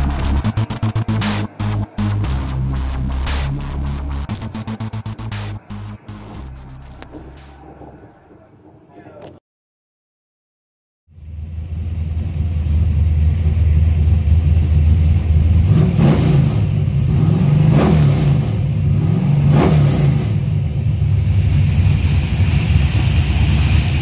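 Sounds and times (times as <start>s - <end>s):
car engine idling and revving: 0.0s - 7.6s, 11.2s - 24.0s.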